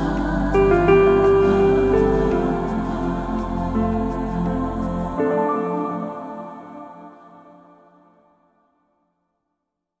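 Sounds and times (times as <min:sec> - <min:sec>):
background music held notes: 0:00.0 - 0:08.0.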